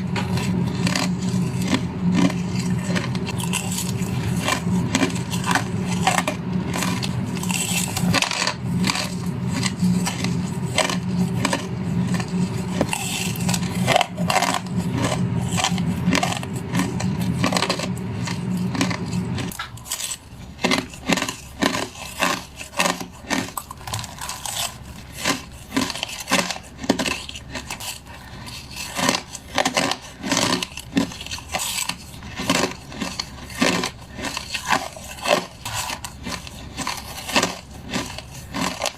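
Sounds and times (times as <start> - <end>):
chewing crushed ice: 0.0 - 38.9
steady low hum: 0.0 - 38.9.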